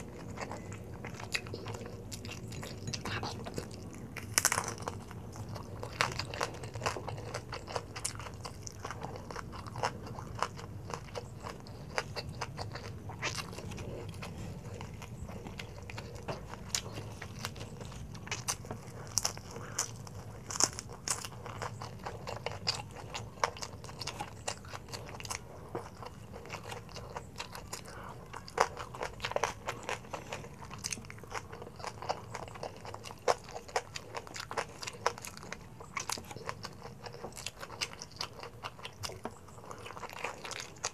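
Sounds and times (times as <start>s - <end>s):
crunching of crispy pork: 0.0s - 40.9s.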